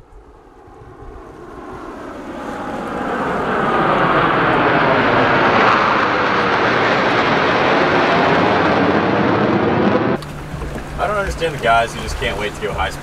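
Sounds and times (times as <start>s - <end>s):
fighter jet flying overhead: 0.0s - 13.0s.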